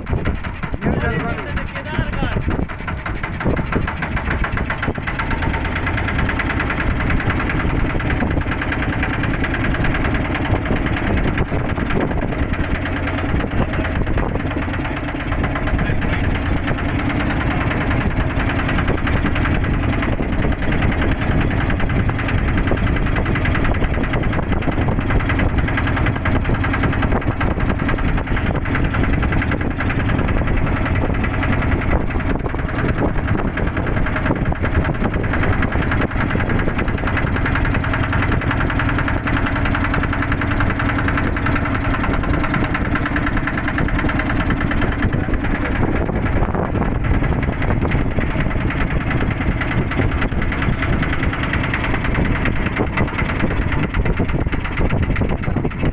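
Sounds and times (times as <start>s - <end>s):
boat motor running: 0.0s - 55.9s.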